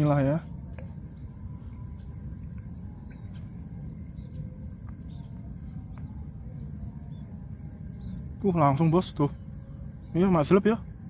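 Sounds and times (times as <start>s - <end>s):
faint bird chirps: 0.0s - 11.0s
low rumble: 0.0s - 11.0s.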